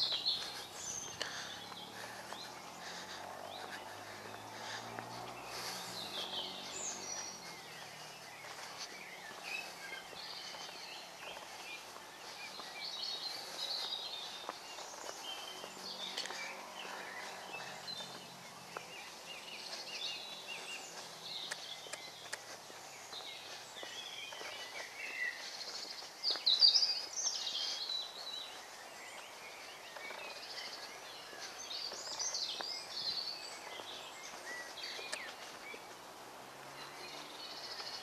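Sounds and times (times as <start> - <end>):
birds singing and chirping: 0.0 - 38.0.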